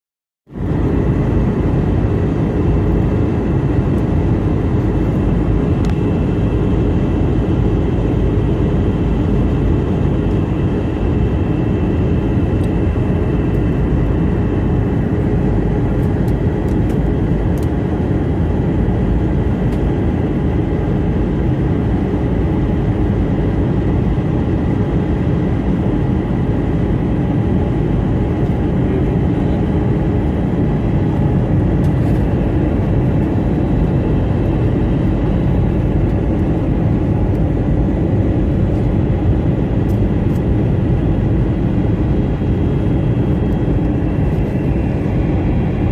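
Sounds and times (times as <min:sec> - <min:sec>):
engine and airflow noise: 0:00.5 - 0:45.9
faint steady whines: 0:00.5 - 0:45.9.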